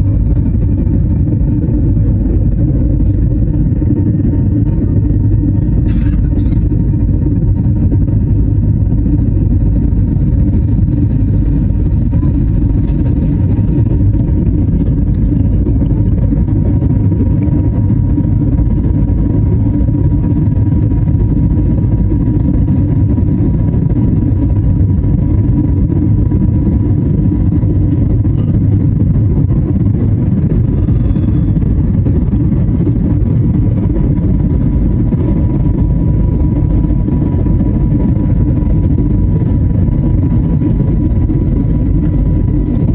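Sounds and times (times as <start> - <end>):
faint steady whine: 0.0 - 42.9
jet engine and airflow drone: 0.0 - 42.9.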